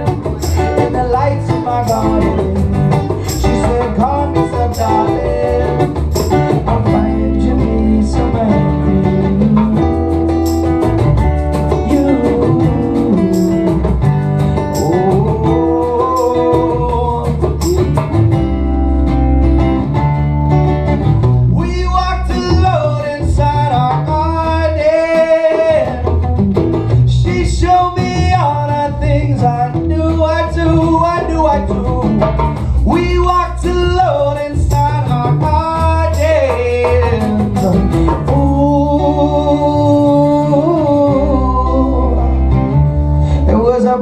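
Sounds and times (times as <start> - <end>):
person singing wordless melody: 0.0 - 10.4, 11.7 - 14.0, 14.6 - 18.0, 21.6 - 26.2, 27.1 - 44.0
percussive beat: 0.0 - 42.7
strummed acoustic guitars: 0.0 - 44.0.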